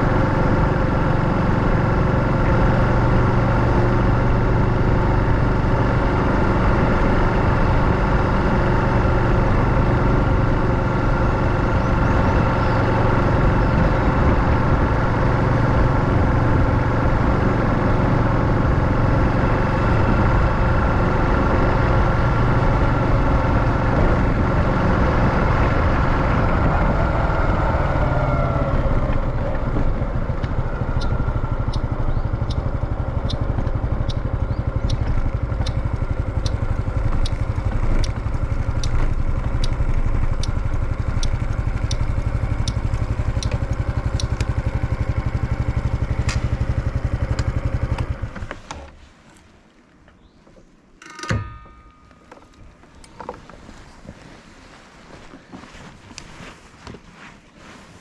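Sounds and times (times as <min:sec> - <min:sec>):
motorcycle engine running: 0:00.0 - 0:48.6.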